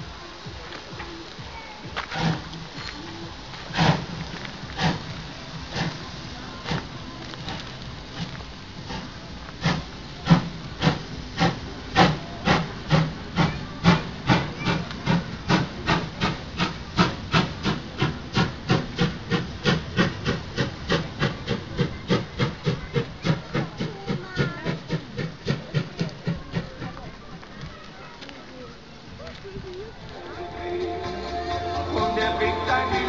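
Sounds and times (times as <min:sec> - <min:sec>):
steam locomotive exhaust chuffing: 0:00.0 - 0:27.5.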